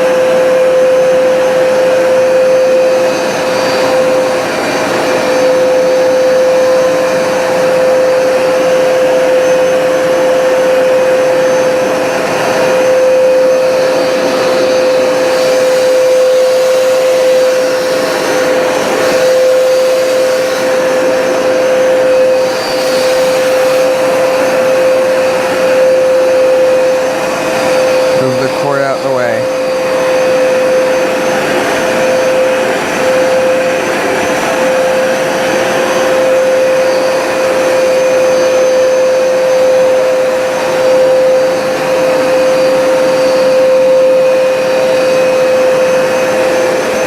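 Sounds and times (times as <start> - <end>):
carpet cleaner motor whine: 0.0 - 28.7, 29.4 - 47.0.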